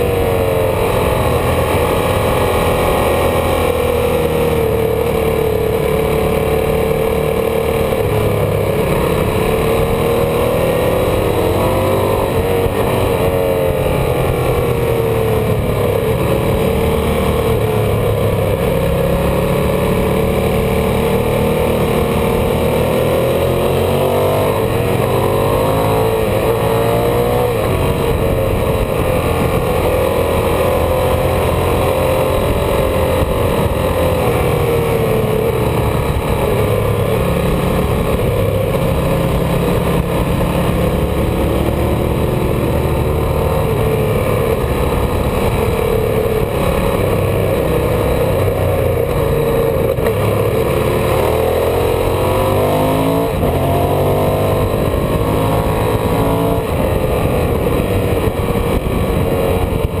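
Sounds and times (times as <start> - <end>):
motorcycle engine running: 0.0 - 60.0
wind noise: 0.0 - 60.0.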